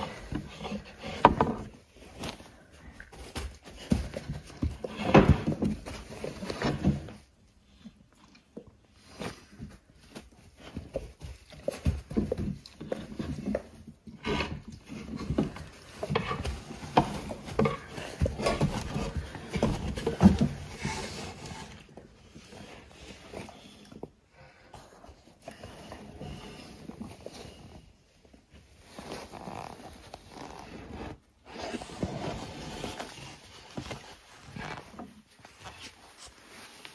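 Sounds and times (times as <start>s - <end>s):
rustling of fur and bedding: 0.0s - 36.9s.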